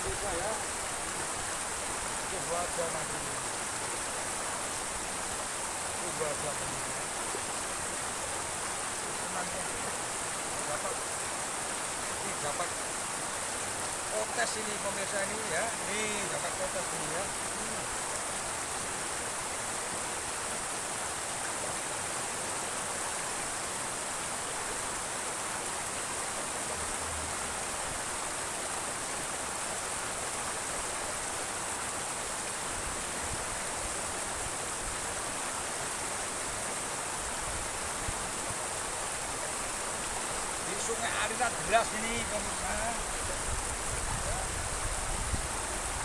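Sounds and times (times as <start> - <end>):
water rushing over stones: 0.0 - 46.0.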